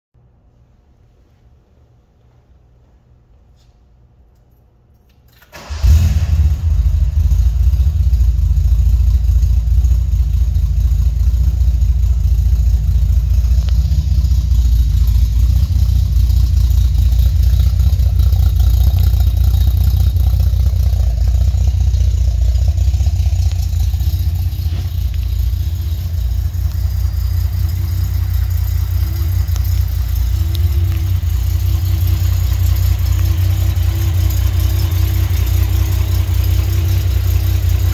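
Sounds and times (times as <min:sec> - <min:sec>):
car engine starting and idling: 0:05.0 - 0:37.9.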